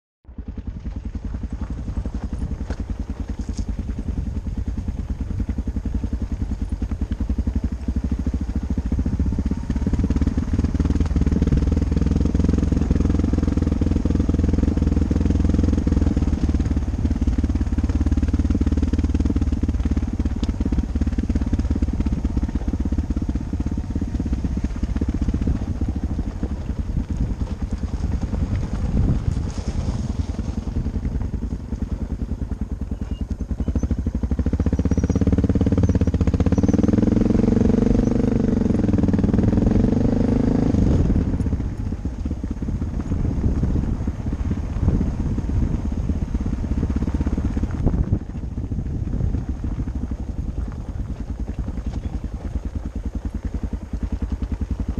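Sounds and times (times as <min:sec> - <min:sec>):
motorcycle engine running: 0:00.2 - 0:54.9.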